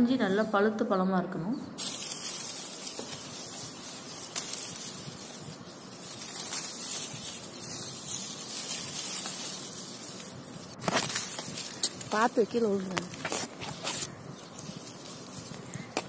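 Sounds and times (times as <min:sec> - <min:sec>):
outdoor hiss: 0:00.0 - 0:16.0
leaves rustling: 0:01.8 - 0:16.0.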